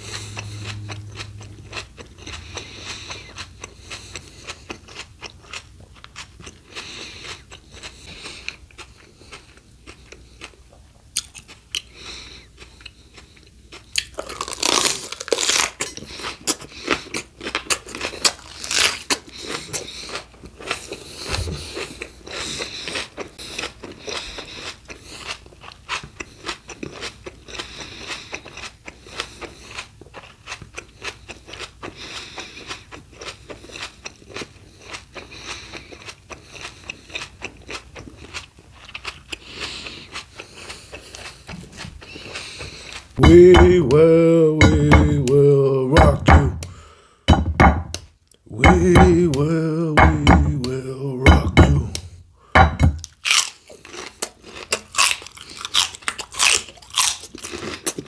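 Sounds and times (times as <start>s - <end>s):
crunchy chewing: 0.0s - 43.2s, 53.0s - 58.0s.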